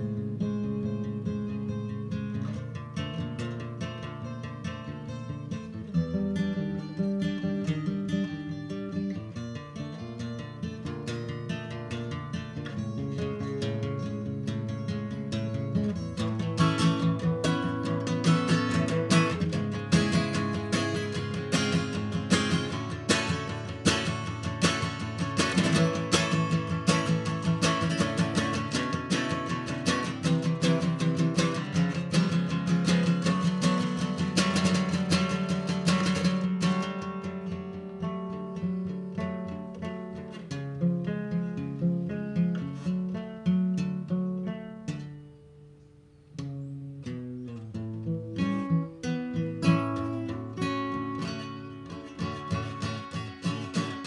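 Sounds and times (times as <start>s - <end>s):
fast guitar strumming: 0.0s - 44.4s, 47.6s - 54.0s.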